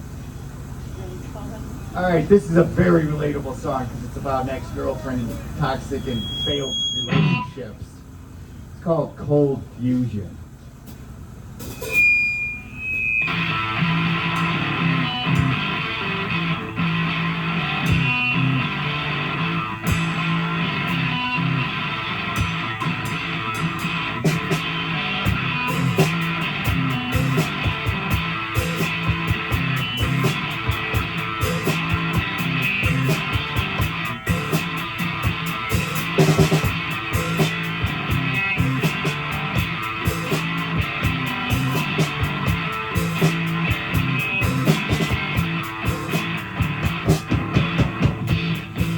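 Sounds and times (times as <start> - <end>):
electric guitar: 2.6 - 7.6, 11.6 - 48.9
high steady tone: 2.6 - 8.7, 11.6 - 47.0
live rock band playing: 2.7 - 7.6, 11.6 - 48.9.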